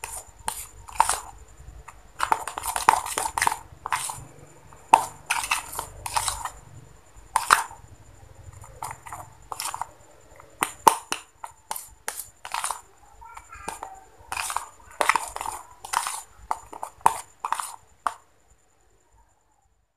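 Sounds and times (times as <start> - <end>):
spoon scraping slime in bowl: 0.0 - 6.6, 7.3 - 7.8, 8.5 - 18.2.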